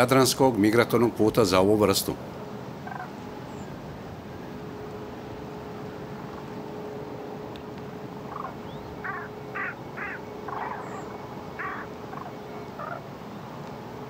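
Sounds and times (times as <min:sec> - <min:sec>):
cranes trumpeting: 0:02.2 - 0:14.0.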